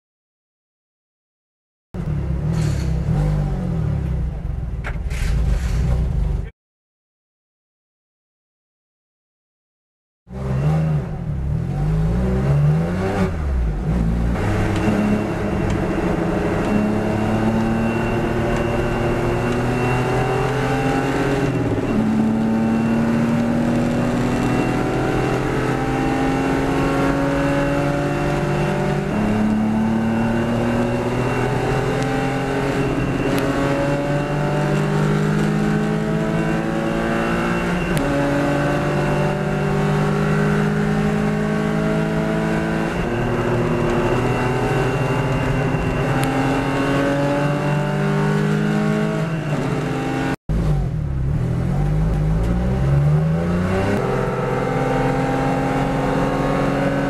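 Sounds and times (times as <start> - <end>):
sports car engine accelerating: 10.3 - 57.0.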